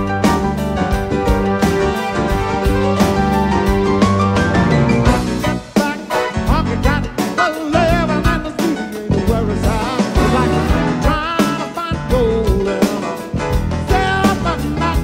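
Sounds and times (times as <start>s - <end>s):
live band playing upbeat song: 0.0s - 15.0s.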